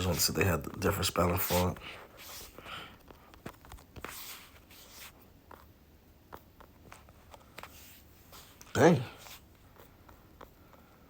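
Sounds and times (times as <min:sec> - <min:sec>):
soft handling rustles: 0:00.0 - 0:11.0.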